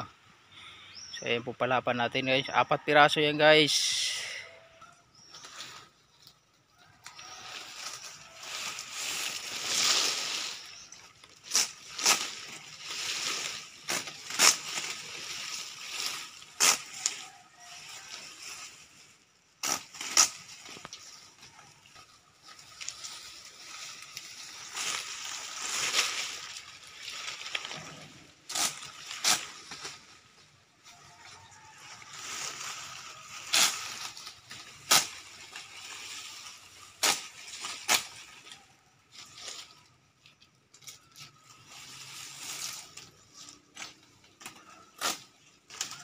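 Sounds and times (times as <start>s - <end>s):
palm fronds rustling and scraping: 5.1s - 46.0s.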